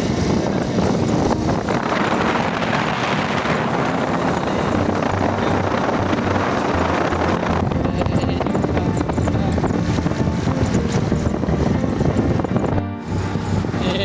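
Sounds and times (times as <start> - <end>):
vehicle engine running: 0.0 - 14.0
wind buffeting microphone: 0.0 - 14.0.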